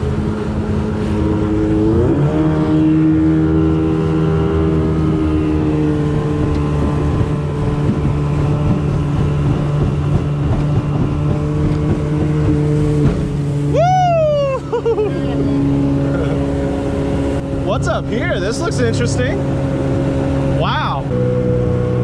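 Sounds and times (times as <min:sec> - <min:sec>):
jet boat engine revving: 0:00.0 - 0:22.0.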